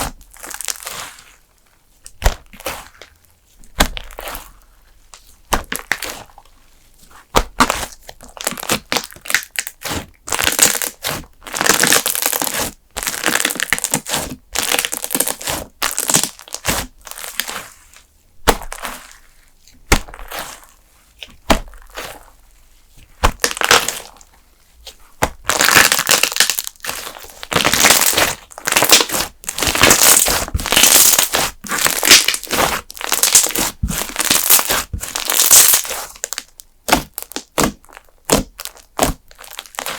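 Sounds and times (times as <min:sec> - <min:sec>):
slime crackling and popping: 0:00.0 - 0:01.3, 0:02.1 - 0:06.5, 0:07.3 - 0:17.8, 0:18.4 - 0:22.4, 0:23.2 - 0:39.9.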